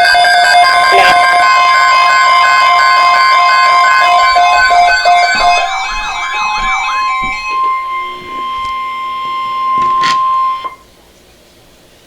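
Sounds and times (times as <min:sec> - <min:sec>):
electronic keyboard music: 0:00.0 - 0:10.8
steady high tone: 0:00.0 - 0:10.8.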